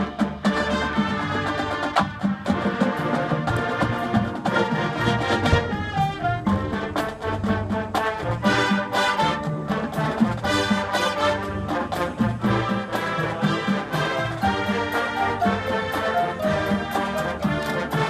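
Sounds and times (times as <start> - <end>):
brass music with rhythmic beat: 0.0 - 18.0.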